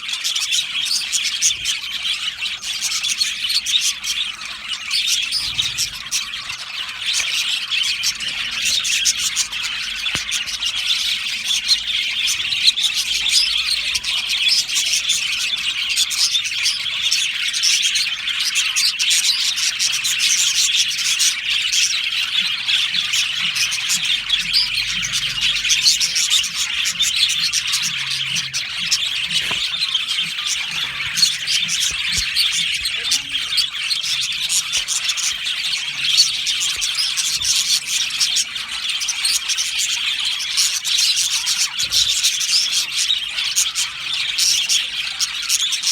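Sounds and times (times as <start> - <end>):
budgerigars chattering and chirping: 0.0 - 45.9.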